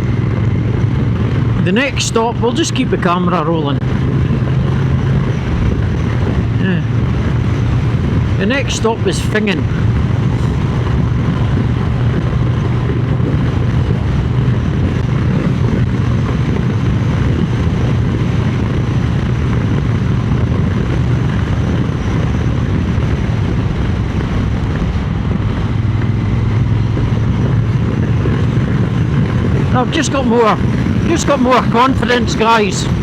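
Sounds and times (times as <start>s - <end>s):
motorcycle engine running: 0.0s - 33.0s
wind buffeting microphone: 0.0s - 33.0s.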